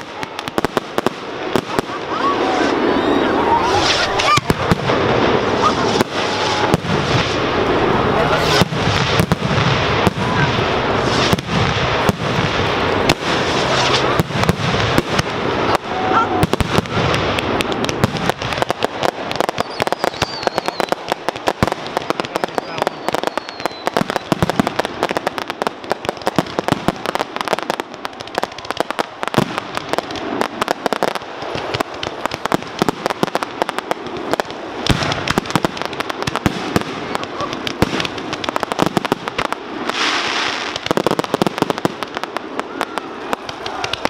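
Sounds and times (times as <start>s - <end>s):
firework hissing rush: 0.0s - 44.0s
fireworks booming and crackling: 0.0s - 44.0s.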